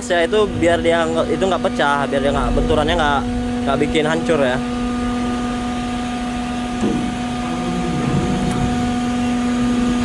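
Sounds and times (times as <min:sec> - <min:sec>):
low rumbling noise: 0:00.0 - 0:10.0
ship machinery hum: 0:00.0 - 0:10.0.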